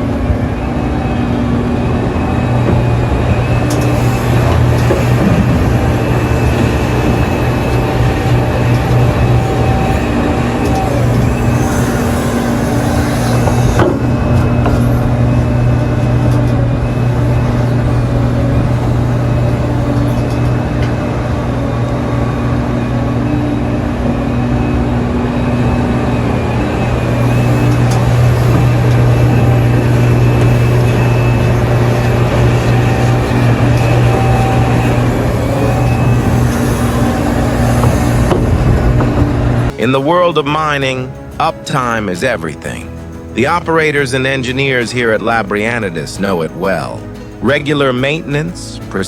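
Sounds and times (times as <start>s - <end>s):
heavy diesel engines humming: 0.0s - 49.0s.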